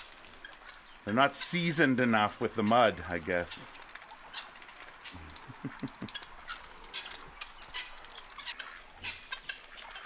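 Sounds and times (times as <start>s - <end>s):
ducks dabbling in wet mud: 0.0s - 10.0s.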